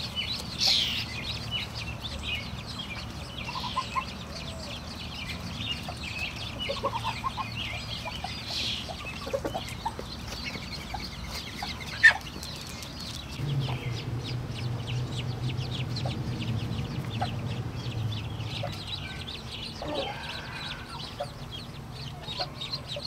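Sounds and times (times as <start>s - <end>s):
ducklings peeping: 0.0s - 23.0s.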